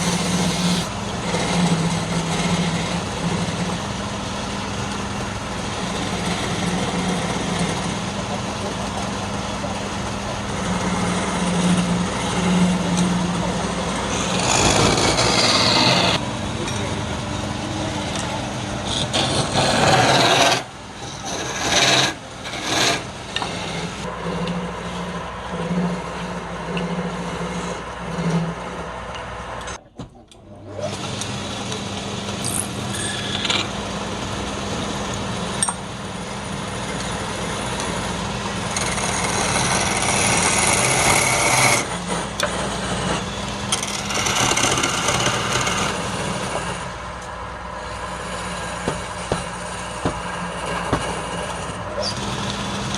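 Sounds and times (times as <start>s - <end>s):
lathe motor hum: 0.0s - 29.8s, 30.7s - 52.9s
tool scraping spinning wood: 0.0s - 29.8s, 30.8s - 52.9s.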